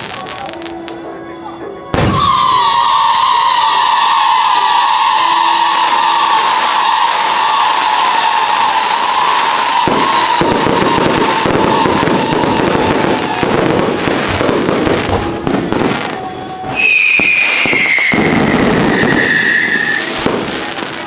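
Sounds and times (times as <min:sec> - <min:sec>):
fireworks bursting and crackling: 0:00.0 - 0:01.0, 0:01.9 - 0:21.0
long descending whistle: 0:02.0 - 0:21.0.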